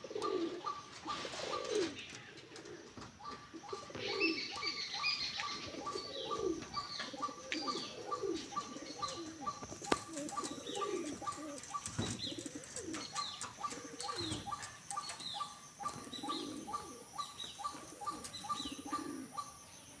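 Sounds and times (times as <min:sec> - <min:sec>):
pigeons cooing: 0:00.0 - 0:20.0
bird chirping repeating pattern: 0:03.2 - 0:20.0.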